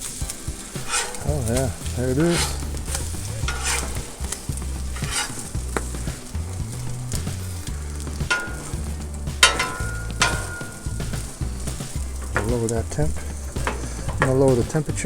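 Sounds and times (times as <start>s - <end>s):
food sizzling on griddle: 0.0s - 15.0s
metal spatula scraping griddle: 0.0s - 15.0s
sharp metal clank: 0.0s - 15.0s.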